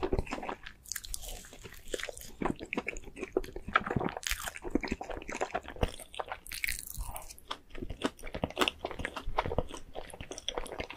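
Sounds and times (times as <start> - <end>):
food crunching: 0.0 - 10.9
wet chewing smacks: 0.0 - 10.9.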